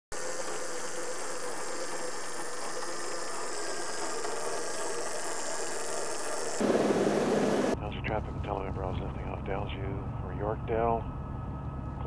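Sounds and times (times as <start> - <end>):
helicopter turbine whine: 0.1 - 12.0.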